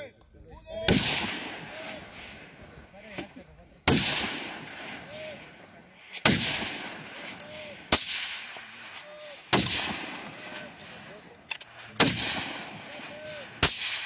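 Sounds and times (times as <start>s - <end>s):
rifle shots echoing: 0.8s - 2.9s, 3.8s - 14.0s.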